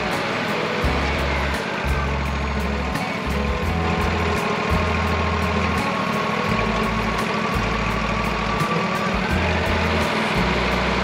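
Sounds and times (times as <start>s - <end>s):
background music with bass and beat: 0.0s - 11.0s
sawmill engine running: 0.0s - 11.0s.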